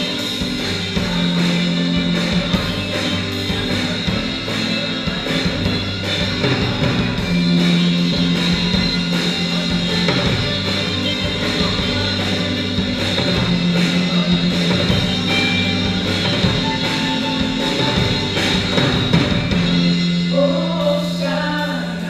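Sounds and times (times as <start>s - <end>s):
drum kit beat: 0.0s - 22.0s
electric guitar: 0.0s - 22.0s.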